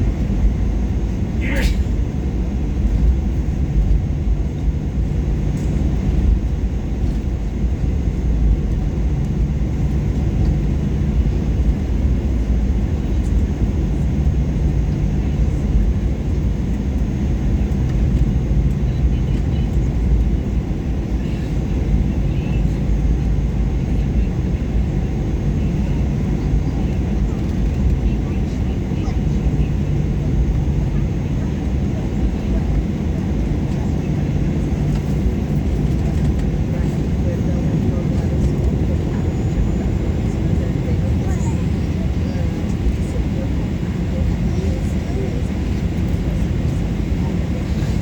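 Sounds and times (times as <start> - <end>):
jet engine cabin rumble: 0.0 - 48.0.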